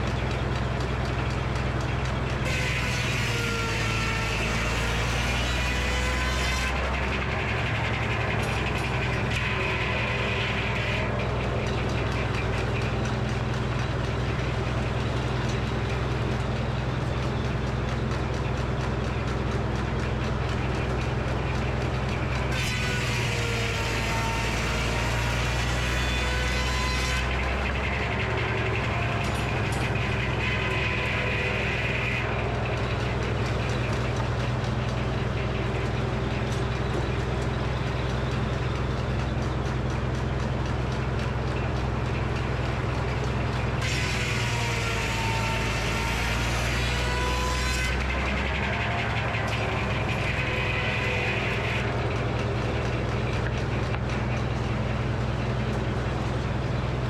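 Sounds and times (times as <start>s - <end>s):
circular saw cutting log: 0.0s - 57.0s
sawmill power unit humming: 0.0s - 57.0s.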